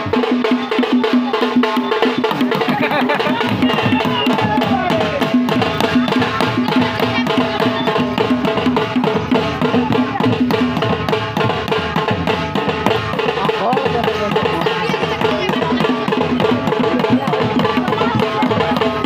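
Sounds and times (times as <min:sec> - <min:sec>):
drums beating fast: 0:00.0 - 0:19.0
faint voices: 0:00.0 - 0:19.0.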